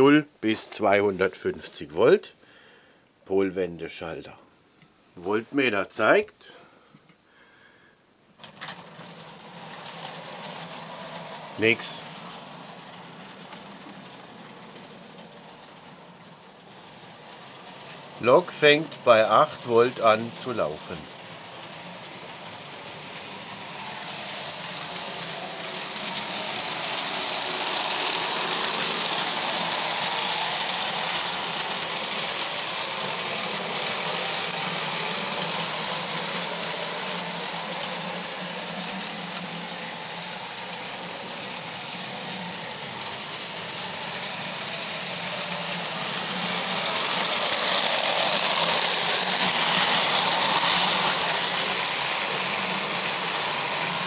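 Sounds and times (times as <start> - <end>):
toy locomotive rattling on track: 8.4 - 54.0.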